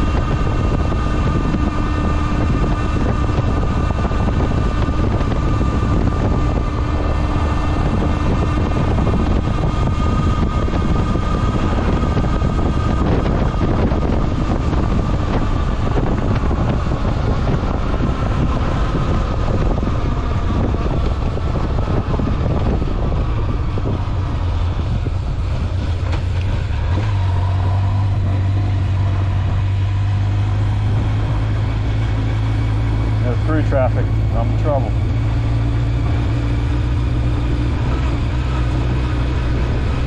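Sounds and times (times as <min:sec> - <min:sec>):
motorcycle engine running: 0:00.0 - 0:40.0
wind noise on microphone: 0:00.0 - 0:40.0.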